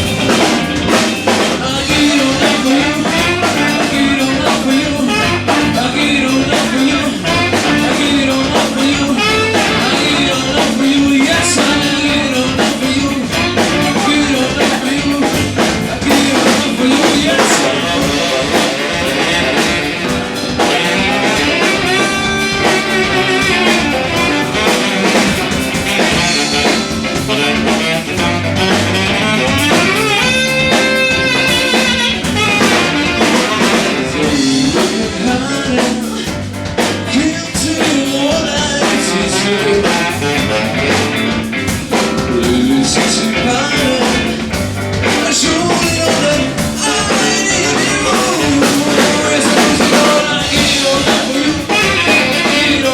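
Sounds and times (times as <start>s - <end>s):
drum kit: 0.0s - 52.9s
guitar: 0.0s - 52.9s
live band playing: 0.0s - 52.9s.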